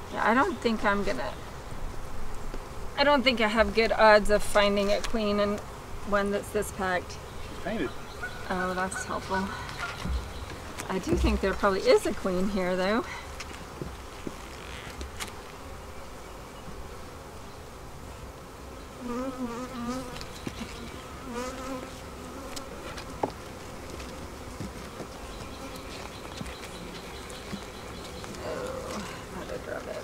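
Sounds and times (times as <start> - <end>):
bee passing close: 0.0 - 30.0
honeybees buzzing: 0.0 - 30.0.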